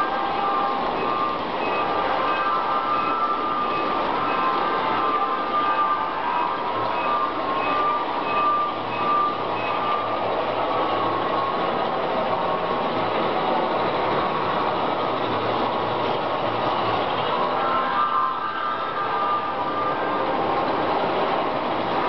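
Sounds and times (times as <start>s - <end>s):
train running on track: 0.0s - 22.0s.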